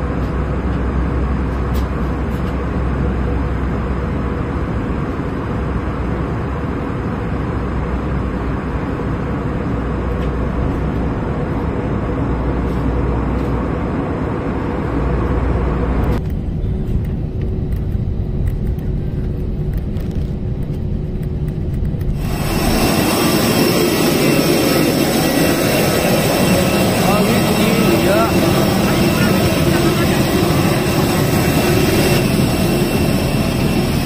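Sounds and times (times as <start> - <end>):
airliner cabin drone in flight: 0.0 - 34.0
low cabin drone and hum: 0.0 - 34.0.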